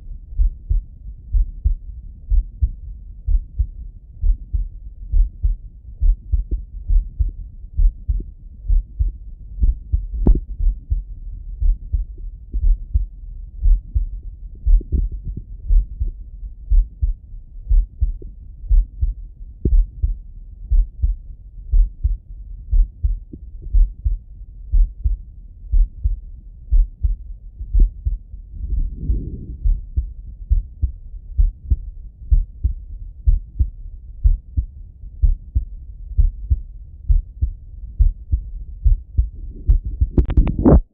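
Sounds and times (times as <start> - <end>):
heartbeat through stethoscope: 0.0 - 40.9.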